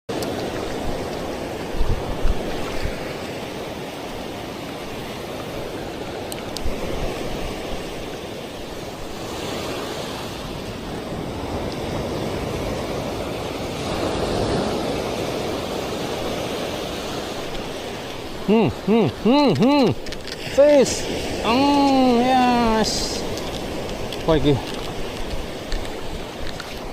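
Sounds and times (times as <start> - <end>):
surf washing onto beach: 0.1 - 26.9
wind buffeting microphone: 0.4 - 26.9.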